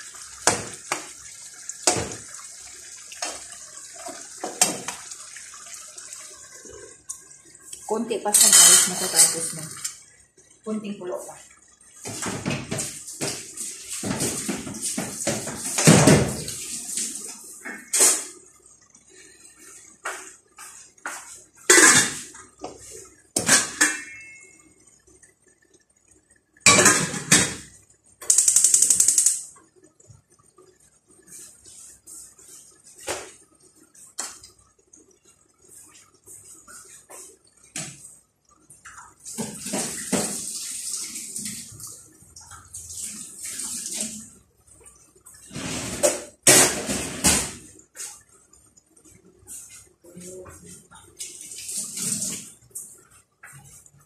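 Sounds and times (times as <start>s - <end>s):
broth boiling and bubbling: 0.0s - 54.0s.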